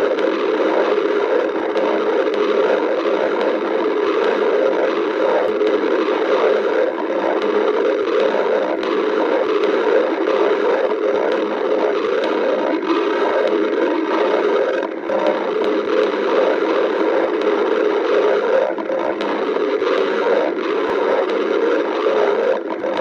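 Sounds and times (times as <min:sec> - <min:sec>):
stomach growling: 0:00.0 - 0:23.0.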